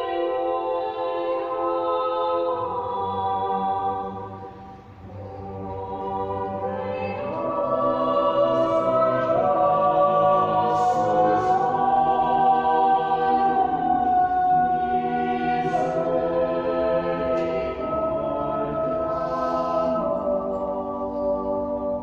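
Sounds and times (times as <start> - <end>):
mixed choir singing chords: 0.0 - 22.0.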